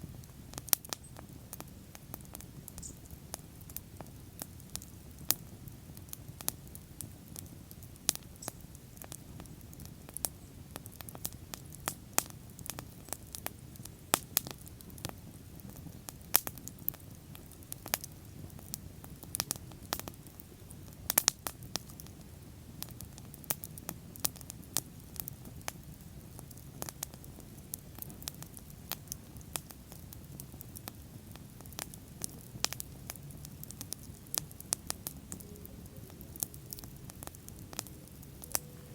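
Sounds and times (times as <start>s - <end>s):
bonfire crackling and popping: 0.0s - 38.9s
low rumble of flames: 0.0s - 38.9s.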